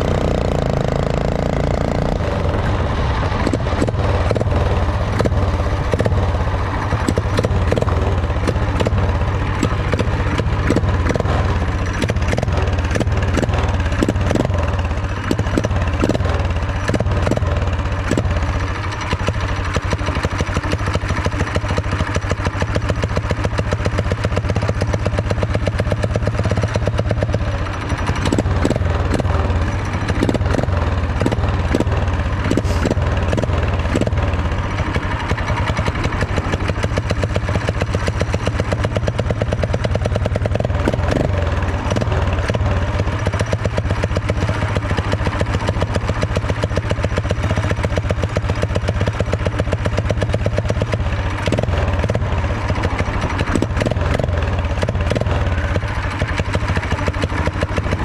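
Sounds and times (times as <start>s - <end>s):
small engine idling: 0.0s - 58.0s
traffic passing: 0.0s - 58.0s.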